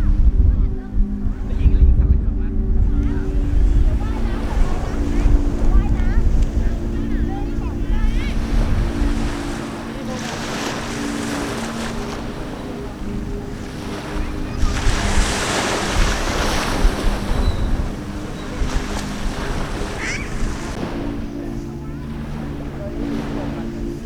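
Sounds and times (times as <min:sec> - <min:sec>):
steady low hum: 0:00.0 - 0:24.0
wind buffeting microphone: 0:00.0 - 0:24.0
sea waves washing: 0:02.8 - 0:24.0.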